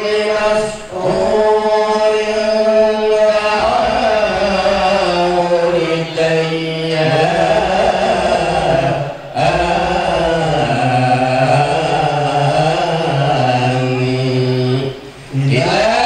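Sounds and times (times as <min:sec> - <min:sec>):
person chanting verses: 0:00.0 - 0:16.0.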